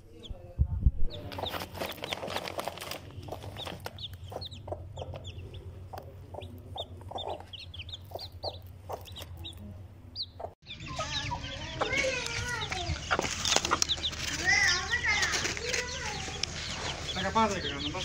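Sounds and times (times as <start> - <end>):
chicks peeping: 1.0 - 18.0
hen clucking: 3.0 - 18.0.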